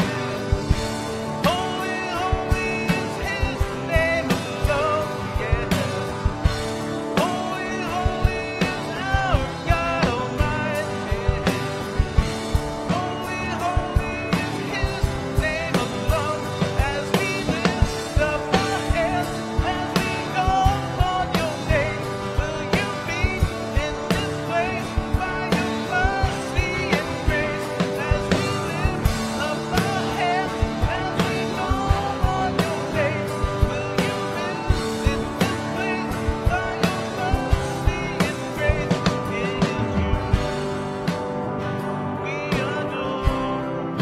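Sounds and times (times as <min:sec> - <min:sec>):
drums steady beat: 0:00.0 - 0:44.0
strummed electric guitars: 0:00.0 - 0:44.0.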